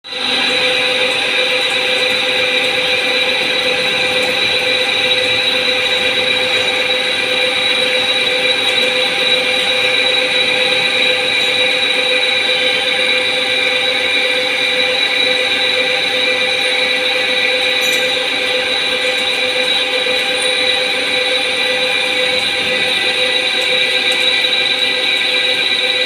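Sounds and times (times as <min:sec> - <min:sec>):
lathe machining with whining tones: 0:00.1 - 0:26.0.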